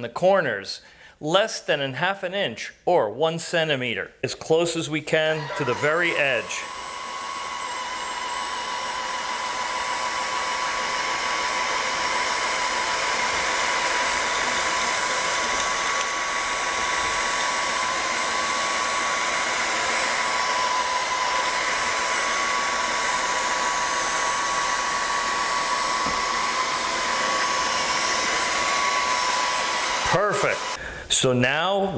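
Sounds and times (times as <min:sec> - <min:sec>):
vacuum cleaner running: 0:05.1 - 0:31.1.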